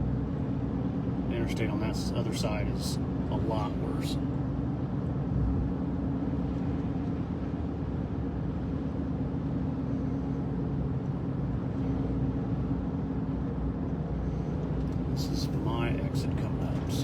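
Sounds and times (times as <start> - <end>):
car engine and tyre road noise: 0.0 - 17.0
low hum and rumble: 0.0 - 17.0.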